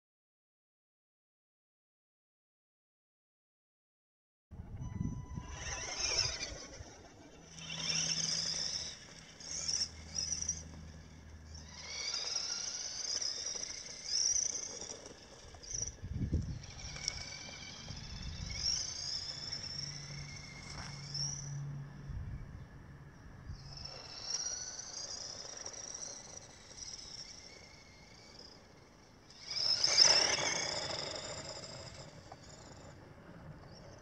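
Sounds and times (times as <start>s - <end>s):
toy car motor whining: 4.7s - 21.8s, 23.5s - 34.0s.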